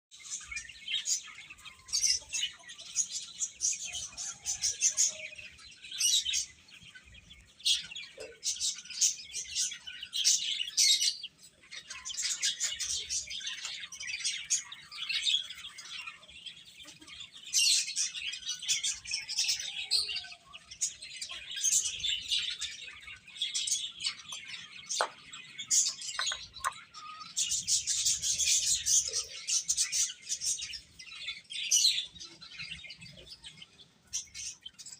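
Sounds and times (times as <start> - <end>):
baby chicks peeping: 0.1 - 34.9.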